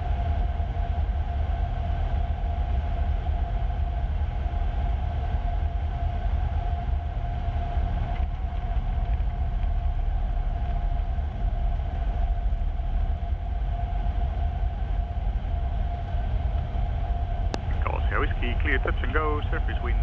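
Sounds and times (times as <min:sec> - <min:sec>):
airplane engine droning: 0:00.0 - 0:20.0
thin steady hum: 0:00.0 - 0:20.0.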